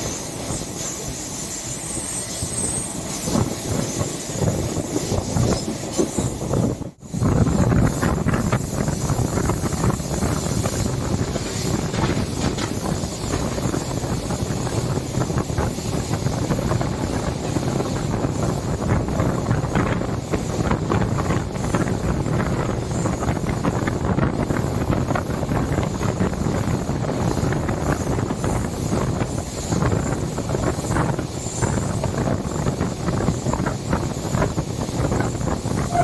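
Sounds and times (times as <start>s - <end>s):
train wheels rumbling on rails: 0.0s - 36.0s
wind on microphone: 0.0s - 36.0s.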